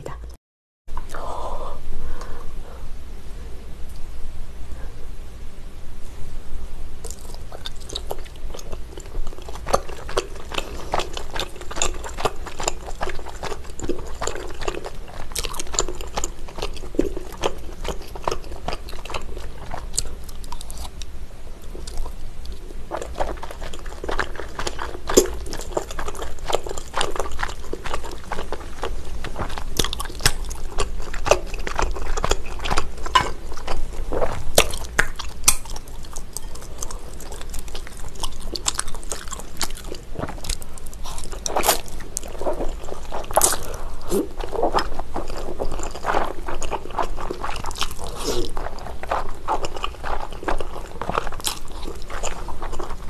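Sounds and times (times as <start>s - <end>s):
chewing sticky rice cakes: 7.0s - 21.1s, 21.7s - 53.0s.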